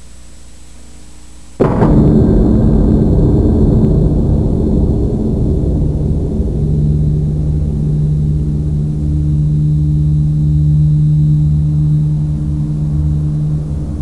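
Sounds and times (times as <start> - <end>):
low gong-like drone: 1.6 - 14.0
slow throbbing rumble: 1.6 - 14.0.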